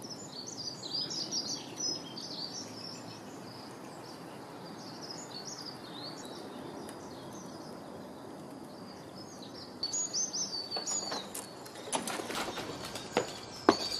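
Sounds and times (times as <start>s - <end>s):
outdoor background hiss: 0.0s - 13.9s
small birds chirping: 0.0s - 13.9s.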